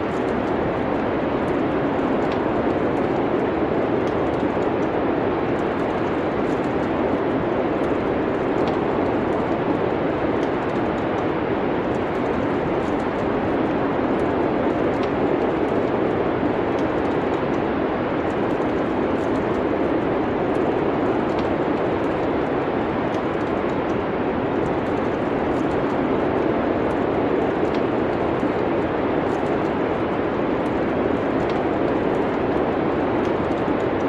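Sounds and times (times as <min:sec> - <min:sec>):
faint wood fire crackle: 0:00.0 - 0:34.0
steady wind: 0:00.0 - 0:34.0.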